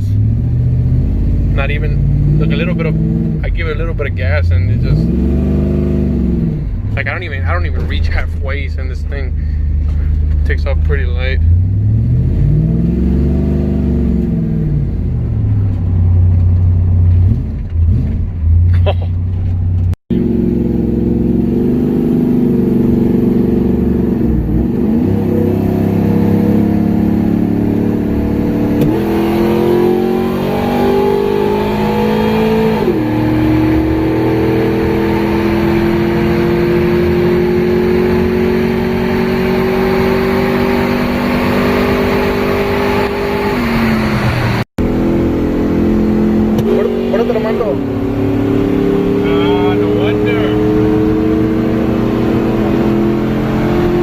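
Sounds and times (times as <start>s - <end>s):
pickup engine accelerating: 0.0s - 54.0s.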